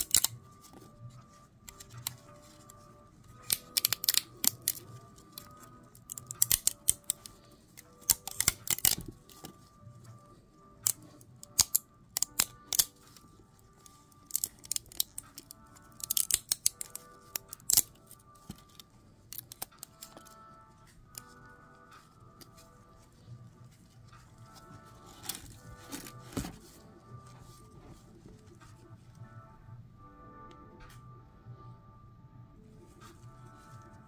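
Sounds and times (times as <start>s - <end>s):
plastic snapping and crackling: 0.0s - 10.2s, 10.8s - 27.9s
quiet lo-fi music: 0.0s - 34.0s.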